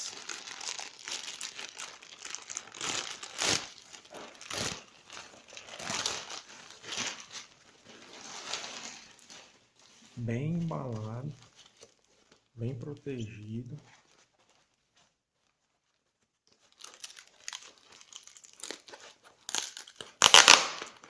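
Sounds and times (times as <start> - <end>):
packaging crinkling and rustling: 0.0 - 12.6, 13.9 - 21.0.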